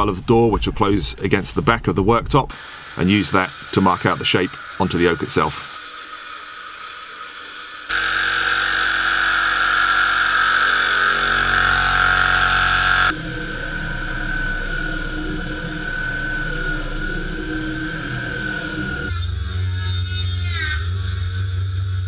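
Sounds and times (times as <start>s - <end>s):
electric jigsaw cutting wood: 2.5s - 21.3s
electric palm sander whining: 2.5s - 22.0s.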